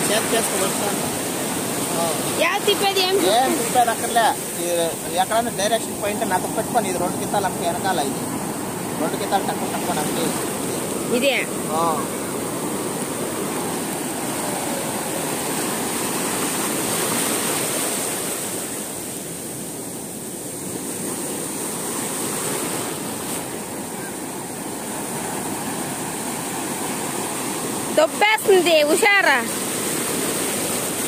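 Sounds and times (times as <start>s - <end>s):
surf washing over sandy beach: 0.0s - 31.0s.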